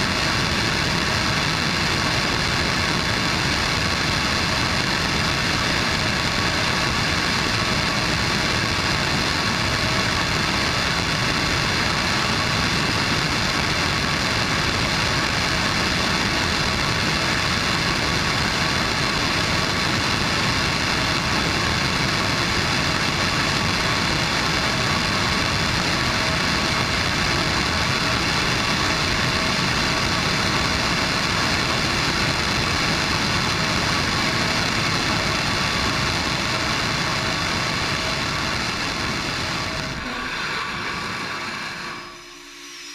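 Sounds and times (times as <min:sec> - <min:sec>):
rocket engine roar: 0:00.0 - 0:42.9.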